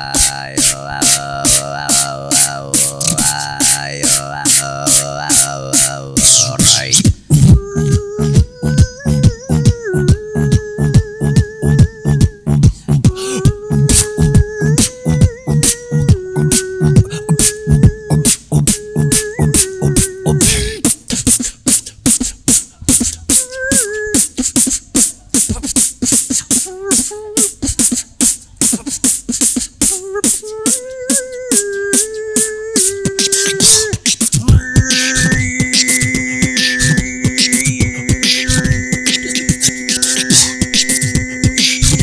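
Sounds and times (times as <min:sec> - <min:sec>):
beatbox vocal percussion: 0:00.0 - 0:42.0
held vocal melody: 0:00.0 - 0:42.0.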